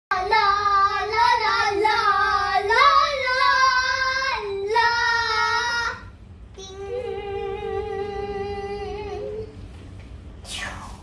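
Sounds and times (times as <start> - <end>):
girls singing: 0.1 - 9.6.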